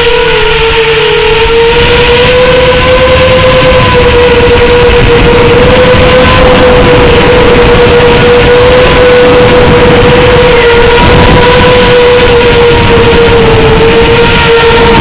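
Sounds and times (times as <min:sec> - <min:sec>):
propeller air rush: 0:00.0 - 0:15.0
quadcopter motors whining: 0:00.0 - 0:15.0.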